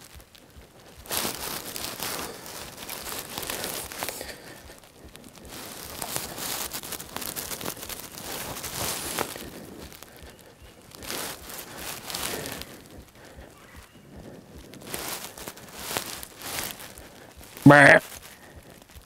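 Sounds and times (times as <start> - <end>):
close rustling and crinkling: 0.0 - 19.0.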